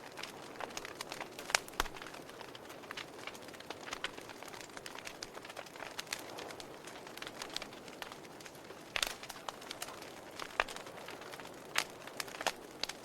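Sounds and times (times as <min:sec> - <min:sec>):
fire pops: 0:00.0 - 0:13.0
wood fire crackling: 0:00.0 - 0:13.0.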